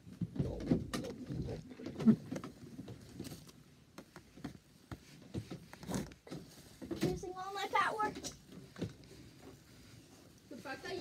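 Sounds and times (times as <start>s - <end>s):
shuffling and rustling: 0.0s - 11.0s.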